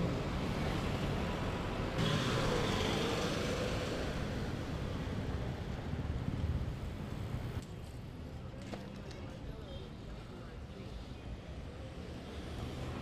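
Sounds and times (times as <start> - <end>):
rumble of passing traffic: 0.0 - 13.0.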